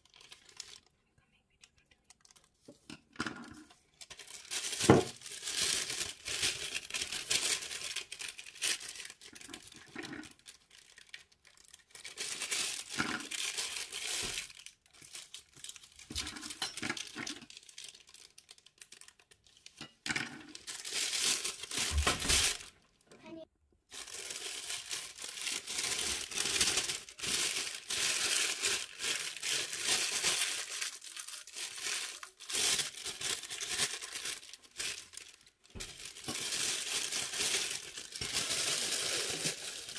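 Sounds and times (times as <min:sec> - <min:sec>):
plastic bag crinkling: 0:00.0 - 0:02.7, 0:03.3 - 0:23.0, 0:23.9 - 0:39.9.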